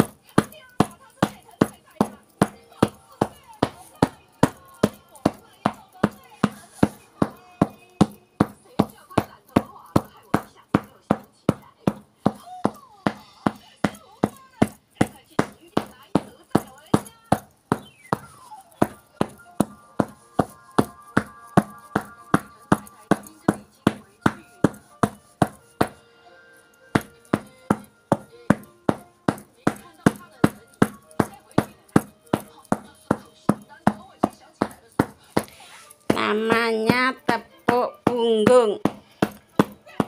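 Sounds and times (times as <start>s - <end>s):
hand patting a back: 0.0s - 26.0s, 26.9s - 40.0s.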